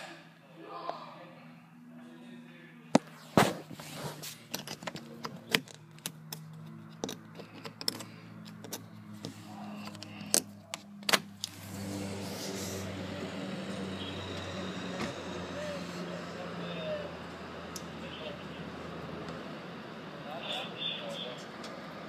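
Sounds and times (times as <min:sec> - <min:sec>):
steady low hum: 0:00.0 - 0:22.0
vehicle noise: 0:00.0 - 0:22.0.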